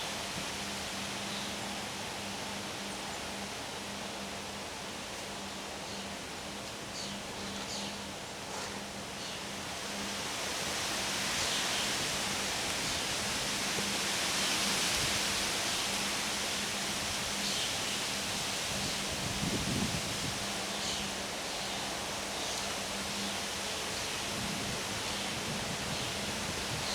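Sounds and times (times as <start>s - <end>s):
wind rustling leaves: 0.0s - 26.9s.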